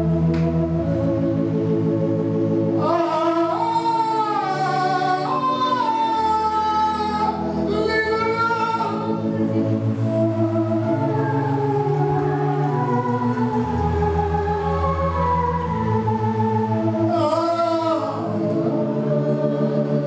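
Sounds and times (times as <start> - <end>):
gospel singing: 0.0 - 20.0
organ chords: 0.0 - 20.0.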